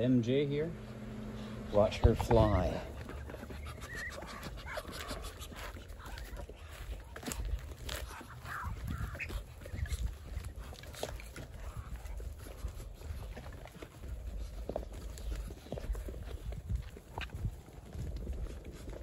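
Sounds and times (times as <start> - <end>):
ducks calling softly: 0.8 - 19.0
footsteps on dirt: 0.8 - 19.0.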